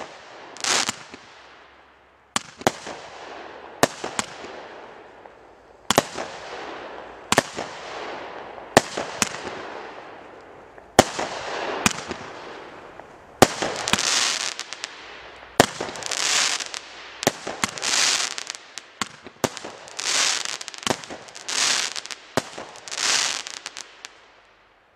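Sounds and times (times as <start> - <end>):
firework crackling: 0.0 - 1.5, 2.4 - 24.4
firework bangs with hiss: 0.0 - 1.6, 2.3 - 24.2.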